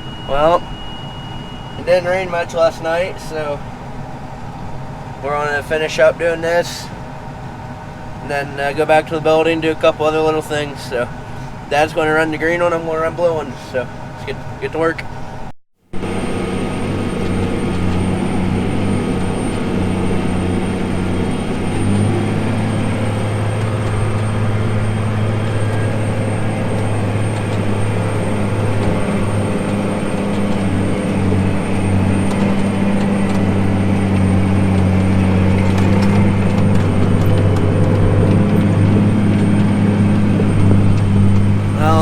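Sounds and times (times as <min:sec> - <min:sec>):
tractor diesel engine drone: 0:00.0 - 0:42.0.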